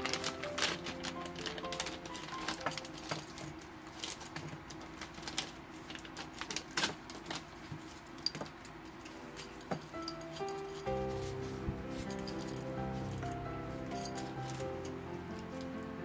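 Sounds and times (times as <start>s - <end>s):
plastic bags crinkling: 0.0s - 15.9s.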